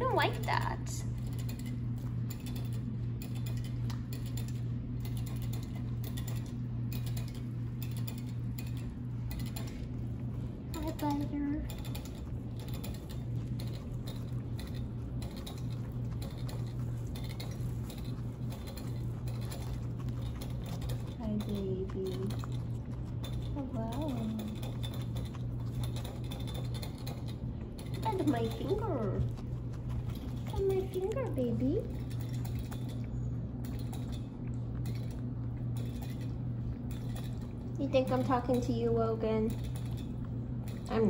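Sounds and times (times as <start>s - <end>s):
guinea pigs chewing hay: 0.0s - 41.0s
low steady hum: 0.0s - 41.0s.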